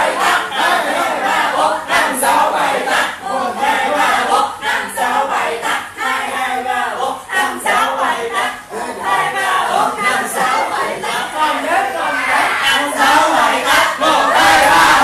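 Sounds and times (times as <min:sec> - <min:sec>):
voices singing loudly: 0:00.0 - 0:15.0.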